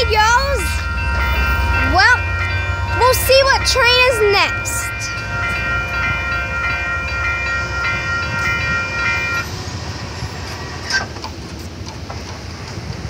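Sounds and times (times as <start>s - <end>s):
railroad crossing bell ringing: 0.0s - 11.0s
low rumble of passing train: 0.0s - 13.0s.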